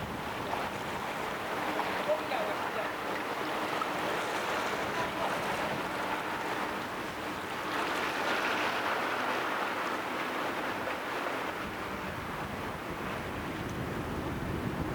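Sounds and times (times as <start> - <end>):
wind on microphone: 0.0 - 2.3, 3.6 - 9.8, 10.5 - 14.9.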